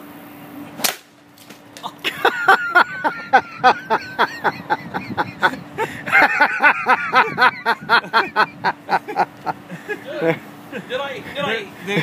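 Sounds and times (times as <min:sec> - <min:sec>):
faint steady hum: 0:00.0 - 0:12.0
people laughing hard: 0:02.0 - 0:12.0.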